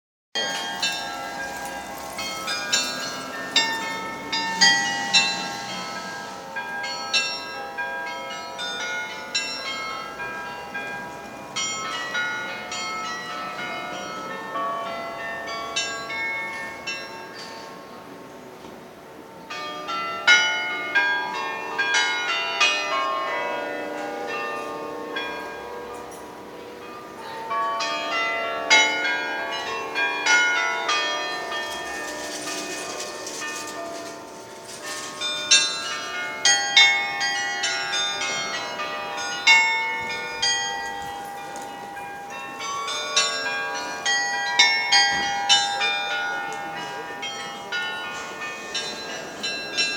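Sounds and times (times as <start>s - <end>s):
carillon bells playing a tune: 0.4s - 17.7s, 26.9s - 49.9s.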